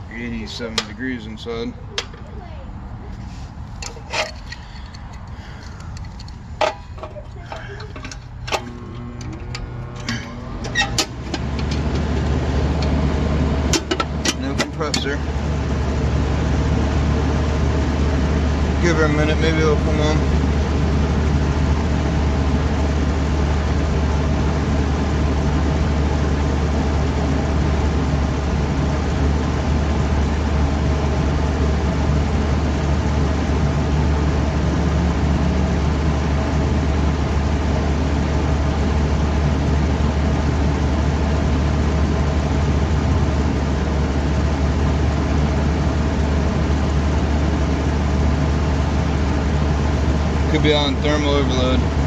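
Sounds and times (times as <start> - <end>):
air conditioner fan humming: 0.0 - 52.0.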